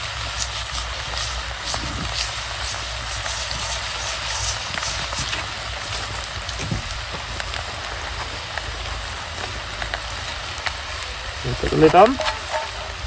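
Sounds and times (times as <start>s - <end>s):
wood coals crackling: 0.0s - 13.0s.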